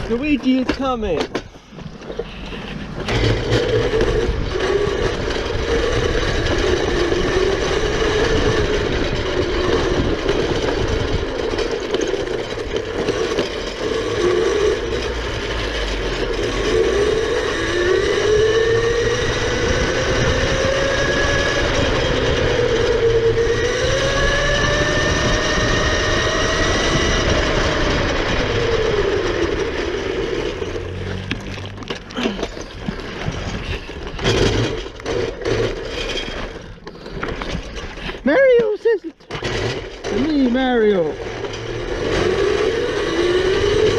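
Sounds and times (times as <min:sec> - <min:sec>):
electric motor whining: 0:02.0 - 0:33.0, 0:39.5 - 0:43.9.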